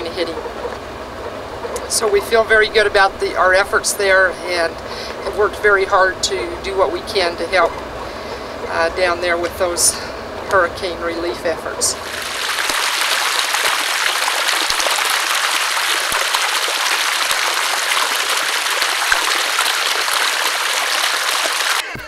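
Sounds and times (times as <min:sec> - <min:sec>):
running water: 0:00.0 - 0:22.0.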